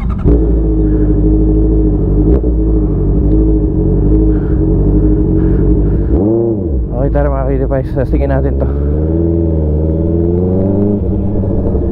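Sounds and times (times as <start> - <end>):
motorcycle engine running steadily: 0.0 - 11.9.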